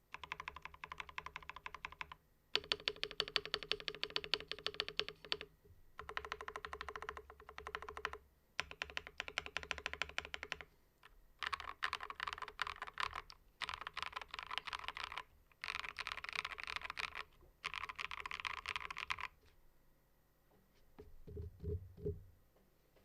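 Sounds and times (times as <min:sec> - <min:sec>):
mechanical keyboard typing: 0:00.1 - 0:10.7, 0:11.4 - 0:19.4.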